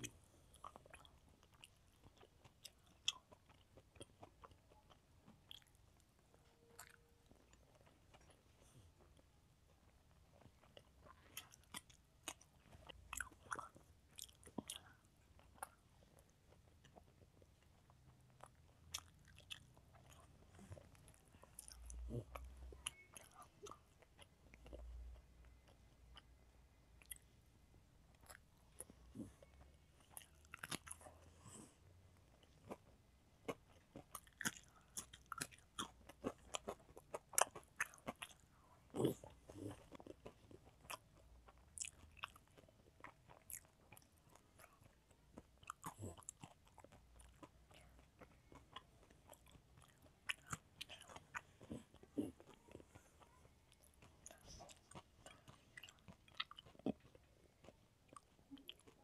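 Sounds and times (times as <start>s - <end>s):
chewing and mouth clicks: 0.0s - 59.0s.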